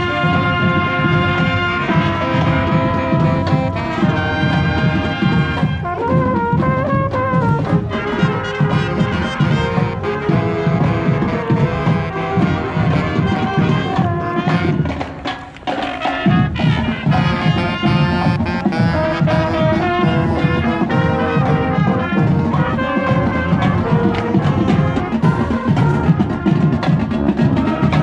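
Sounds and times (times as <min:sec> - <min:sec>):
marching band brass: 0:00.0 - 0:28.0
marching drums: 0:00.0 - 0:28.0.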